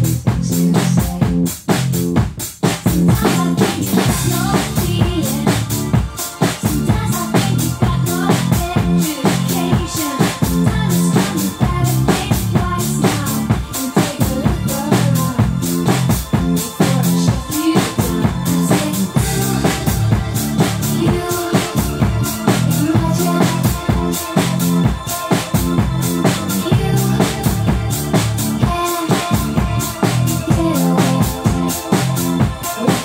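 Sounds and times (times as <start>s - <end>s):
acoustic drum kit beat: 0.0s - 33.0s
electronic dance track: 0.0s - 33.0s.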